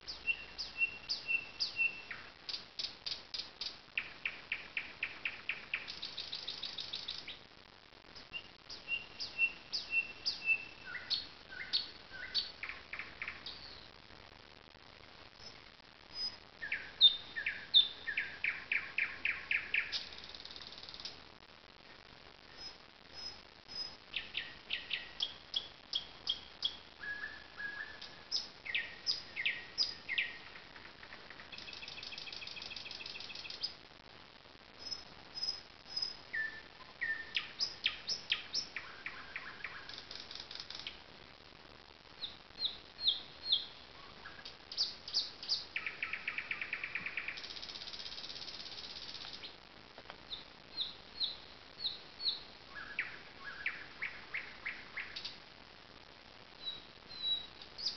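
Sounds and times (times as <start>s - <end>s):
nightingale singing: 0.0s - 7.5s, 8.1s - 14.0s, 15.3s - 21.2s, 22.5s - 33.8s, 34.7s - 41.1s, 42.2s - 49.6s, 50.2s - 55.4s, 56.6s - 57.9s.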